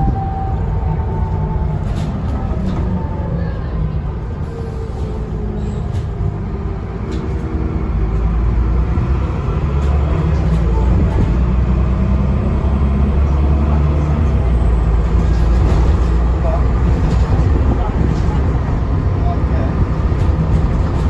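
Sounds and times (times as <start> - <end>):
bus diesel engine droning: 0.0 - 21.0.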